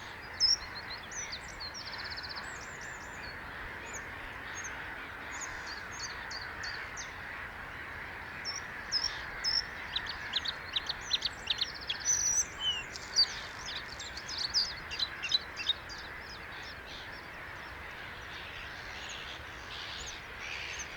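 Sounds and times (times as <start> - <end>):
bird singing: 0.0 - 7.2, 8.4 - 20.9.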